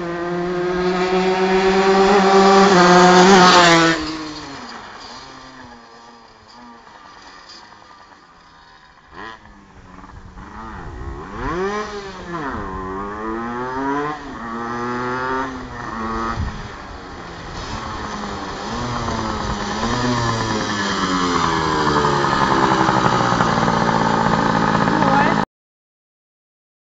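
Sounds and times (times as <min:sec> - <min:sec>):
go-kart engine revving: 0:00.0 - 0:25.5.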